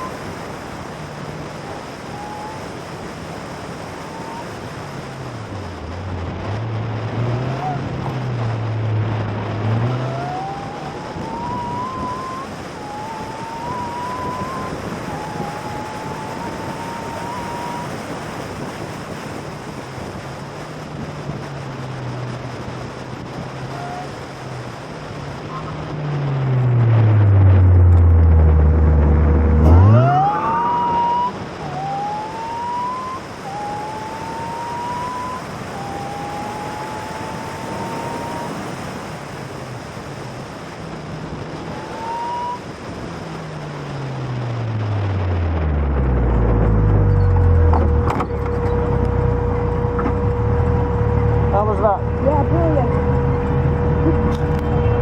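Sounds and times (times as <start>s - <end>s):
car engine accelerating: 0.0s - 55.0s
wind noise: 0.0s - 55.0s.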